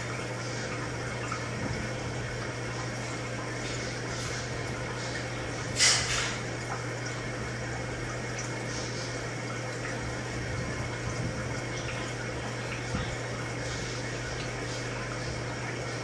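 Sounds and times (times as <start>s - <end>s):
aquarium water bubbling: 0.0s - 16.0s
low pump hum: 0.0s - 16.0s.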